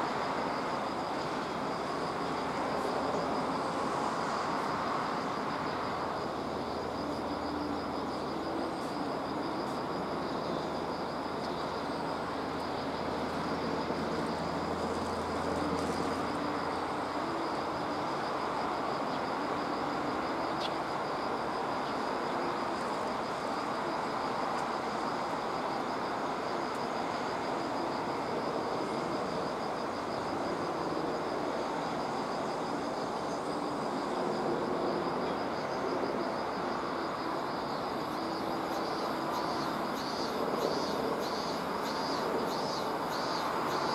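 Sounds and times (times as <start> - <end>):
rushing outdoor background noise: 0.0 - 43.9.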